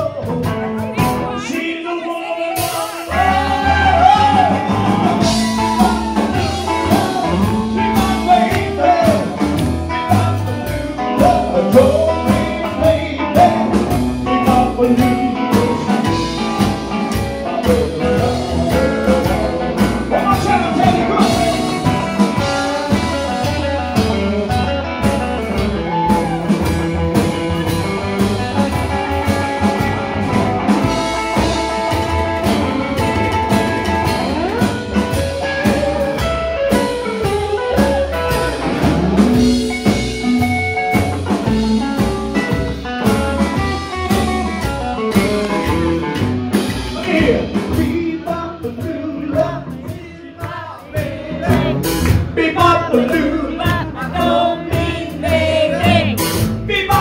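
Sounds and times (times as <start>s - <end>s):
drum kit: 0.0s - 1.8s, 2.5s - 57.0s
electric guitar: 0.0s - 49.9s
upright double bass: 2.6s - 57.0s.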